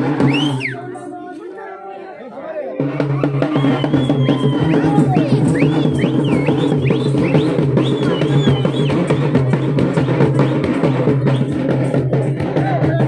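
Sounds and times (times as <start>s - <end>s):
loud fast drumming: 0.0s - 0.8s, 2.8s - 13.0s.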